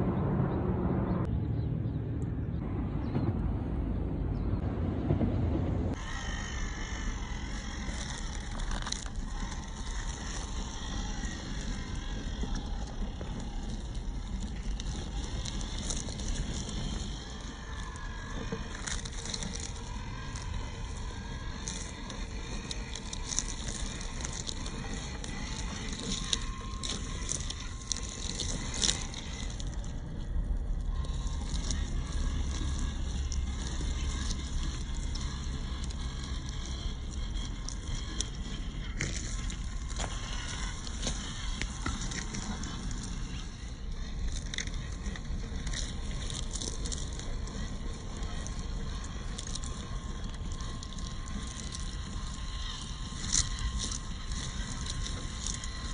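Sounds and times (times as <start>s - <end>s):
toy truck electric motor whining: 5.9s - 55.9s
tyres crunching over dry leaves: 5.9s - 55.9s.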